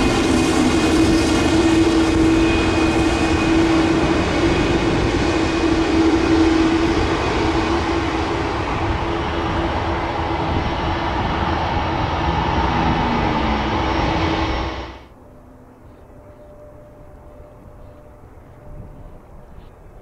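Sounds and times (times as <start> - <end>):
jet engines roaring: 0.0 - 19.6.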